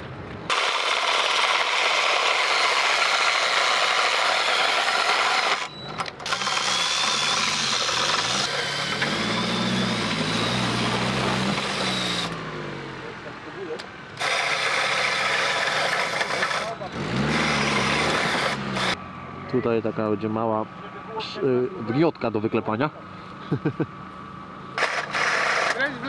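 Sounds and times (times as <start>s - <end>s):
off-road vehicle engine revving: 0.5s - 21.9s.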